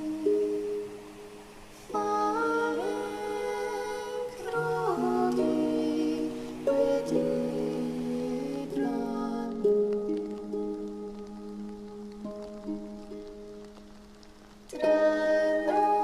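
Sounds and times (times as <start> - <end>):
slow synth-pad music: 0.0 - 16.0.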